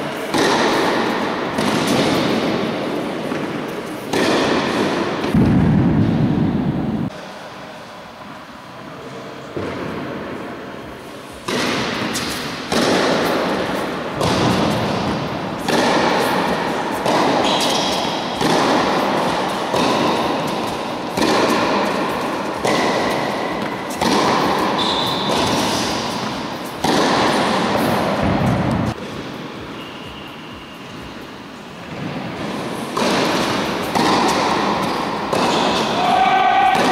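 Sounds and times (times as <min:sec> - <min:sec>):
tennis balls hit with rackets: 0:00.0 - 0:07.2, 0:11.4 - 0:29.3, 0:31.8 - 0:36.9.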